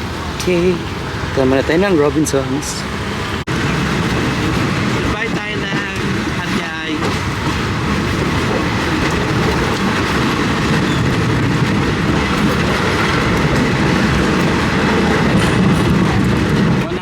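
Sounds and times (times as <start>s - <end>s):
passenger train running: 0.0s - 17.0s.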